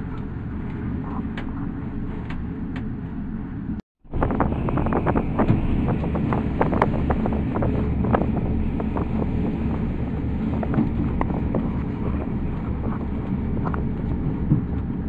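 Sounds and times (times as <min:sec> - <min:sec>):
cable car rumble: 0:00.0 - 0:15.0.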